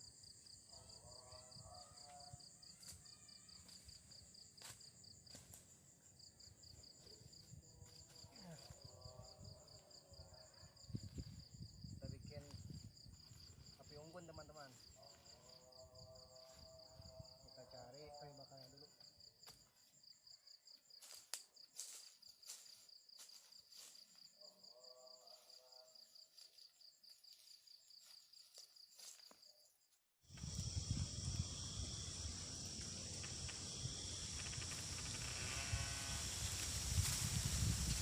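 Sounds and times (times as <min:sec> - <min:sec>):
insects chirring: 0:00.0 - 0:38.0.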